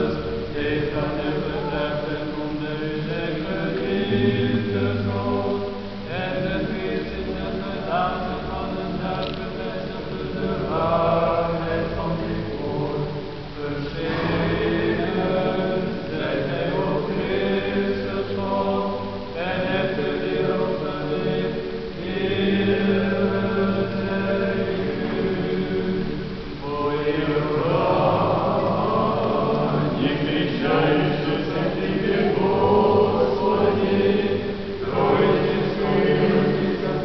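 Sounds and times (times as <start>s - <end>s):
choir chanting long notes: 0.0s - 37.0s.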